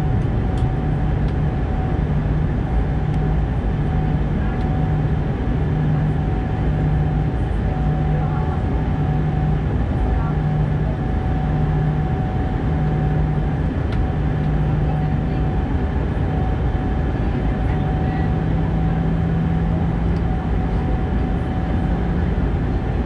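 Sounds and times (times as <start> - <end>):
airflow and jet engine noise: 0.0 - 23.0.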